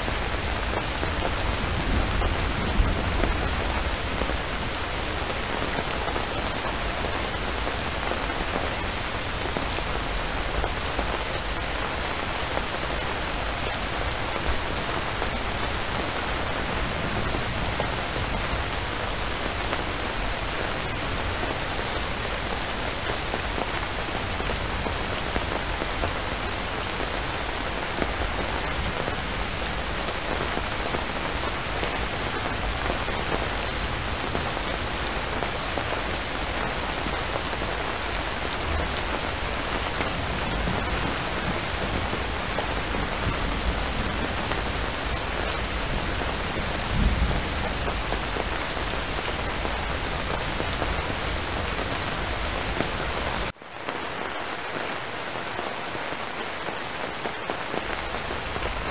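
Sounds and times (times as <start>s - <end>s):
heavy rainfall: 0.0s - 58.9s.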